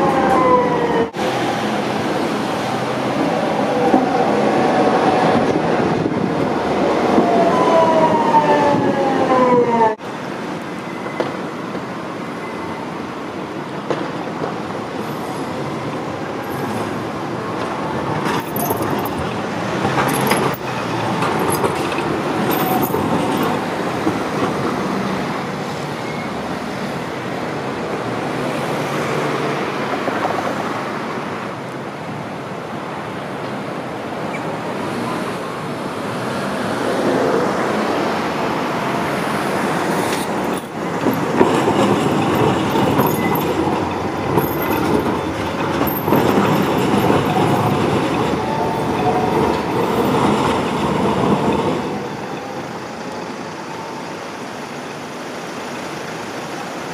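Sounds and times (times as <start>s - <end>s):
passing cars: 0.0s - 56.9s
tram wheels rumbling on rails: 0.0s - 56.9s.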